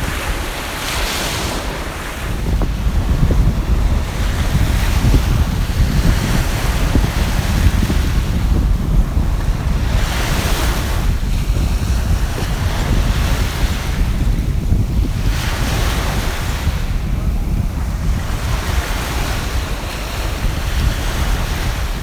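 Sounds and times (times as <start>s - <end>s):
surf washing onto shore: 0.0s - 22.0s
wind rumbling on microphone: 0.0s - 22.0s.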